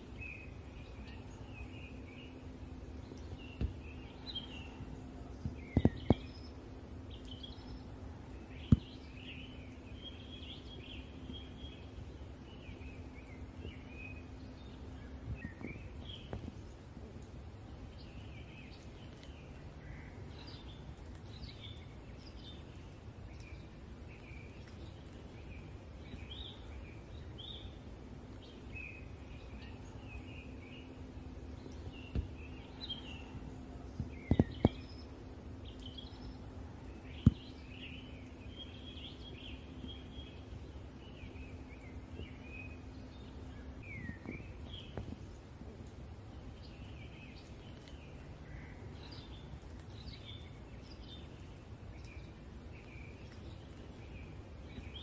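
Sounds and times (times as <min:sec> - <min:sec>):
low background rumble: 0:00.0 - 0:55.0
songbirds chirping and singing: 0:00.0 - 0:55.0.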